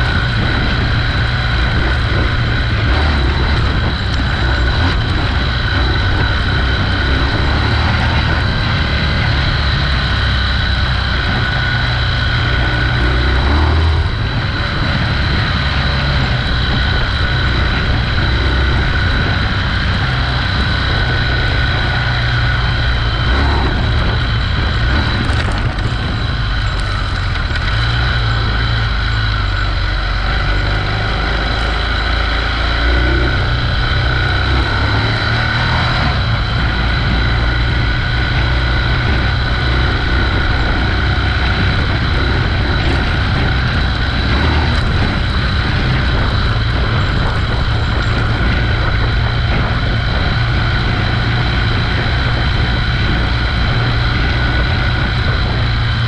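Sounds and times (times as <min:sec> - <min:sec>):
steady high whine: 0:00.0 - 0:56.0
vehicle rumble on dirt road: 0:00.0 - 0:56.0.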